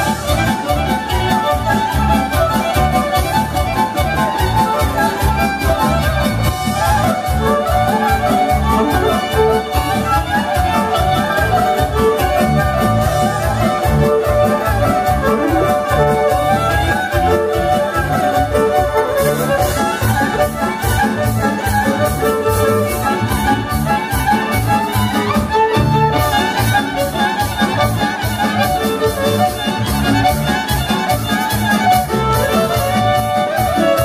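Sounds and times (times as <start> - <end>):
accordion: 0.0 - 34.0
violins playing folk dance tune: 0.0 - 34.0.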